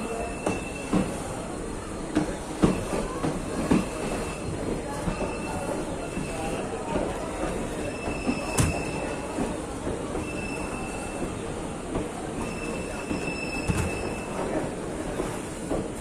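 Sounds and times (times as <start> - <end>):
train wheels squealing on rails: 0.0 - 15.4.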